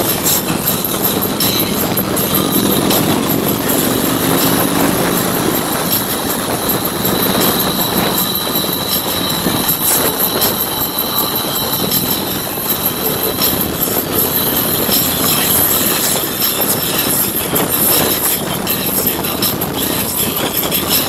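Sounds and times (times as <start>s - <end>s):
motorcycle engines running: 0.0s - 21.0s
thin high whine: 0.0s - 21.0s
wind and tyre rush: 0.0s - 21.0s.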